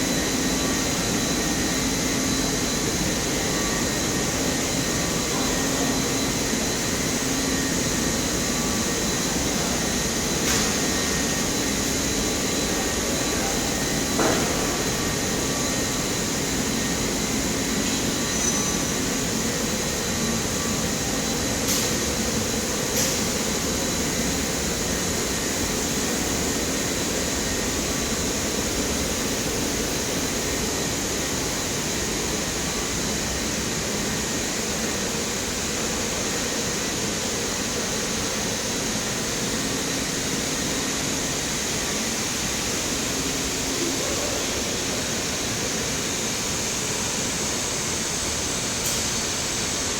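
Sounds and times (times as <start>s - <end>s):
machine hum and hiss: 0.0s - 49.9s.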